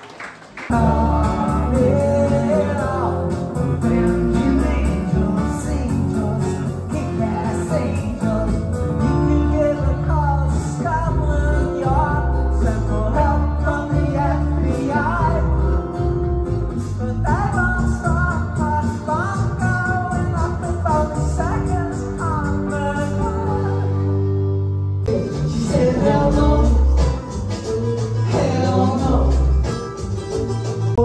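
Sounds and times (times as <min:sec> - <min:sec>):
man singing: 0:00.7 - 0:24.3, 0:25.1 - 0:27.4, 0:28.0 - 0:30.1
acoustic guitars strummed: 0:00.7 - 0:31.0.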